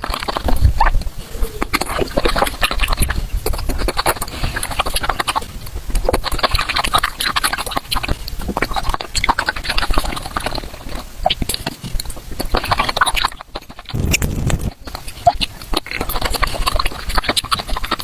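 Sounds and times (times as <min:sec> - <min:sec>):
chewing and mouth smacking: 0:00.0 - 0:18.0.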